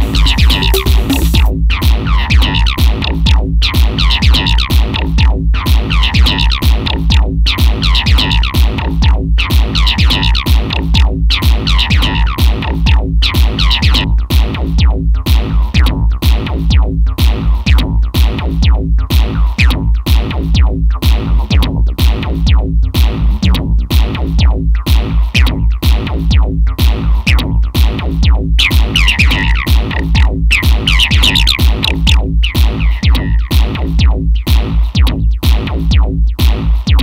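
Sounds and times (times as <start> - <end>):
acid electronic track: 0.0 - 37.0.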